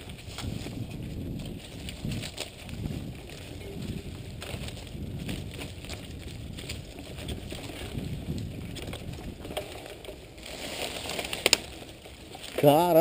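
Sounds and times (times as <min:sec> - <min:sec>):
bike rattling: 0:00.0 - 0:13.0
bike tyres rumbling on dirt: 0:00.0 - 0:13.0
wind noise on microphone: 0:00.0 - 0:13.0.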